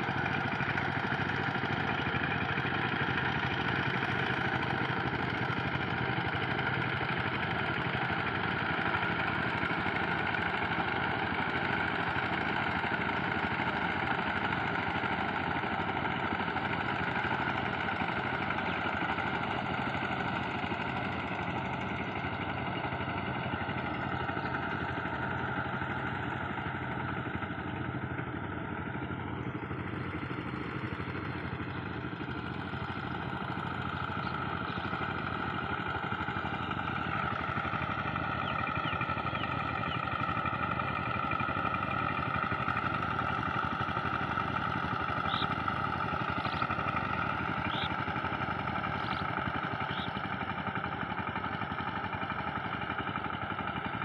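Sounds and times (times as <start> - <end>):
power tiller engines running: 0.0 - 54.0.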